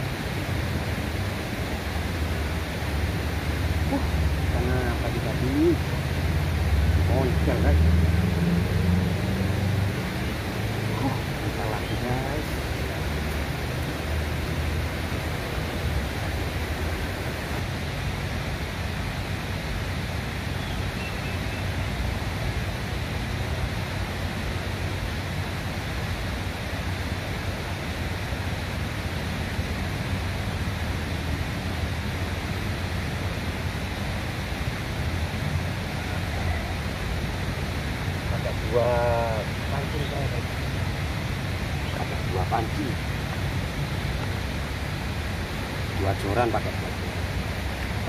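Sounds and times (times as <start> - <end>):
river rushing: 0.0 - 48.0.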